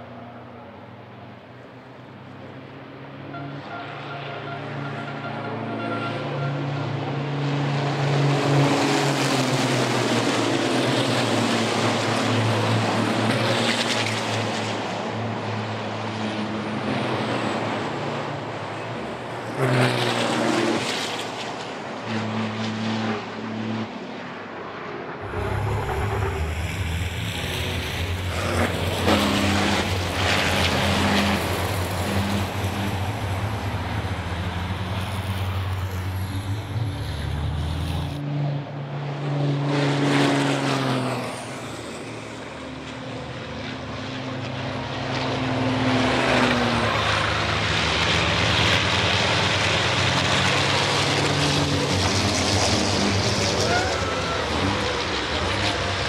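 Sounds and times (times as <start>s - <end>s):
racing truck engines passing: 0.1s - 56.0s.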